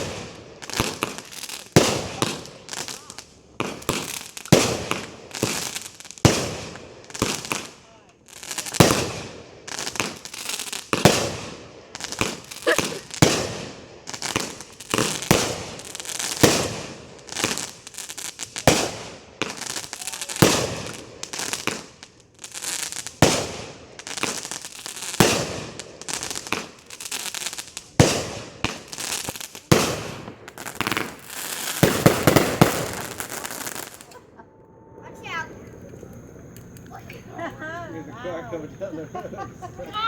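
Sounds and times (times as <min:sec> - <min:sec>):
firework bangs with crackle: 0:00.0 - 0:34.2.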